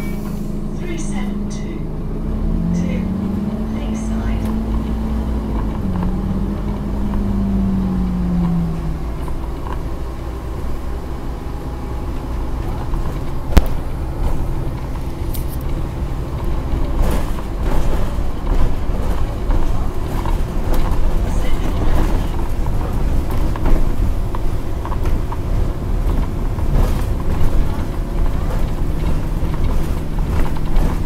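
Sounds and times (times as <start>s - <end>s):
bus engine running: 0.0s - 31.0s
road noise: 0.0s - 31.0s.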